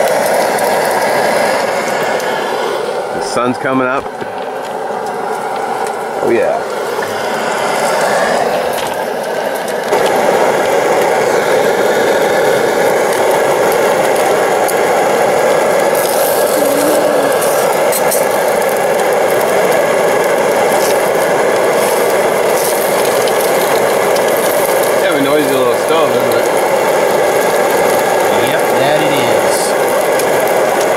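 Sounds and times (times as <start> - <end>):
camp stove flame roaring: 0.0 - 30.9.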